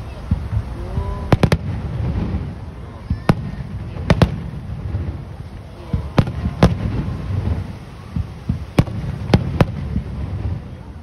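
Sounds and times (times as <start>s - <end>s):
low rumble of explosions: 0.0s - 11.0s.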